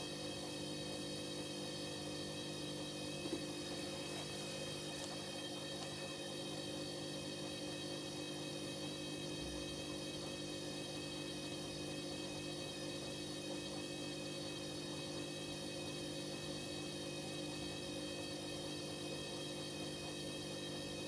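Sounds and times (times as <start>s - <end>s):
washing machine electrical hum: 0.0s - 21.0s.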